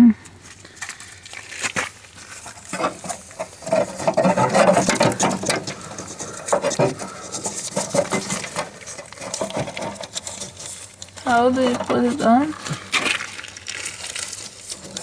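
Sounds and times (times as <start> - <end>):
hands handling mower parts: 0.2 - 15.0.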